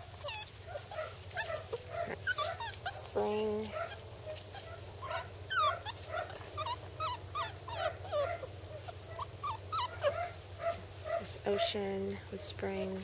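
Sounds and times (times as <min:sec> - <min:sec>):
puppies whimpering and yipping: 0:00.0 - 0:12.0.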